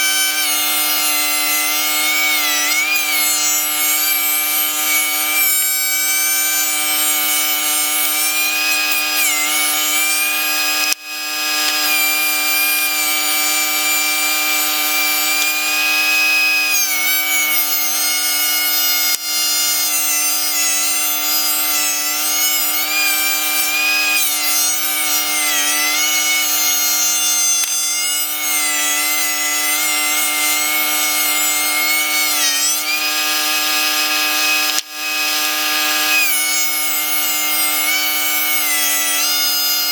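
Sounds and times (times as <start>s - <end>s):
thickness planer whining: 0.0s - 39.9s.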